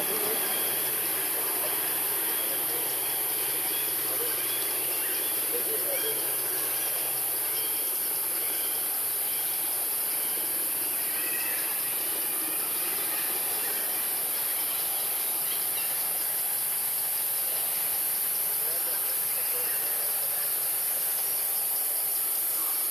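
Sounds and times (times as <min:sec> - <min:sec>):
faint chirps: 0:00.0 - 0:22.9
forest insects droning: 0:00.0 - 0:22.9.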